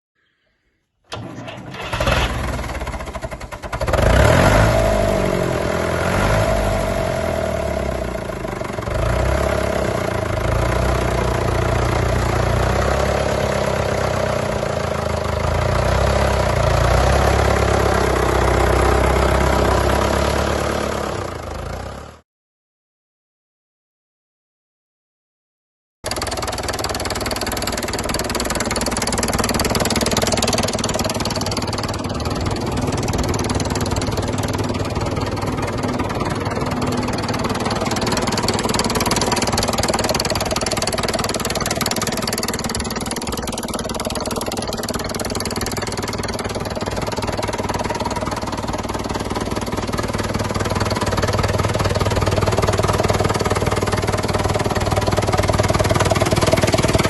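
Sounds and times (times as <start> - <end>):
tractor diesel engine running: 1.1 - 22.1, 26.1 - 57.0.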